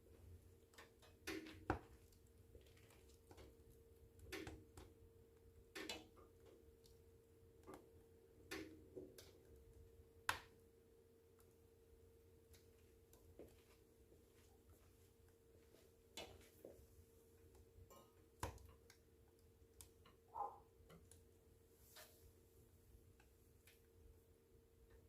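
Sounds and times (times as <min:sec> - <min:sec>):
faint steady hum: 0:00.0 - 0:25.0
wood fire crackling: 0:00.0 - 0:25.0.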